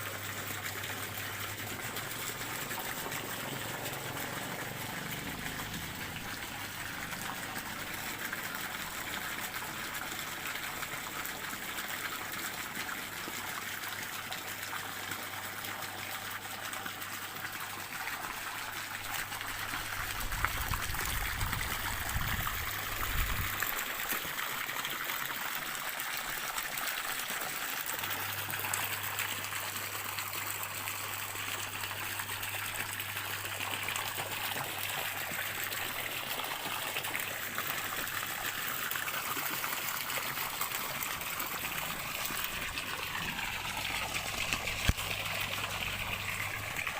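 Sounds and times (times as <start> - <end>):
stream water trickling: 0.0 - 46.9.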